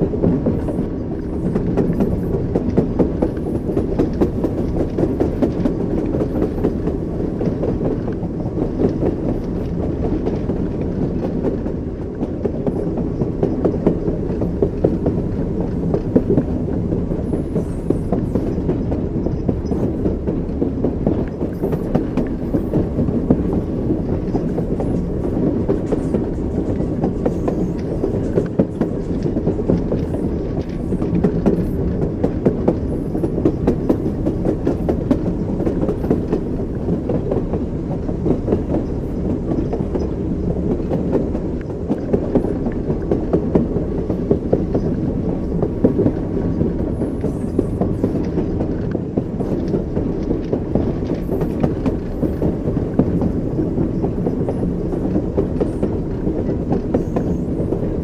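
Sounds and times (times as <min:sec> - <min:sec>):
low rumble of train carriage: 0:00.0 - 0:58.0
train wheels clattering on rails: 0:00.0 - 0:58.0.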